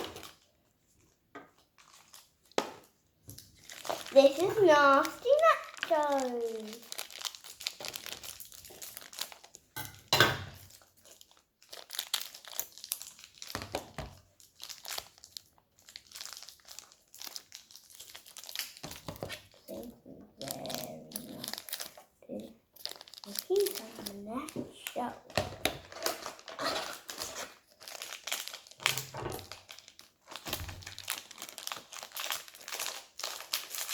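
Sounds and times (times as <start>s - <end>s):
plastic packaging crinkling: 0.0s - 33.9s.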